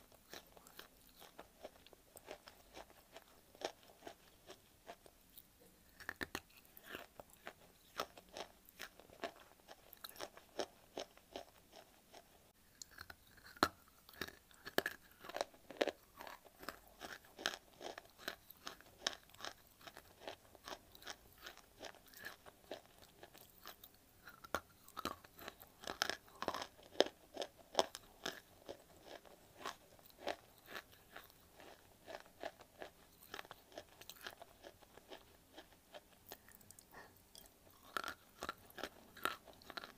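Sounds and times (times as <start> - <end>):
clay crunching being chewed: 0.0 - 39.9.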